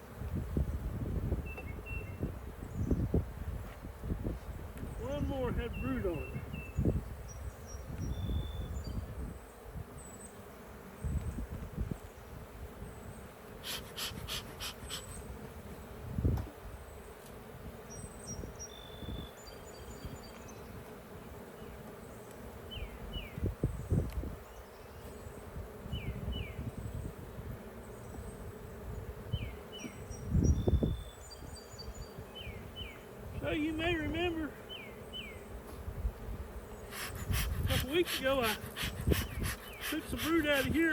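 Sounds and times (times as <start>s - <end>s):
honeybees buzzing: 0.0s - 40.9s.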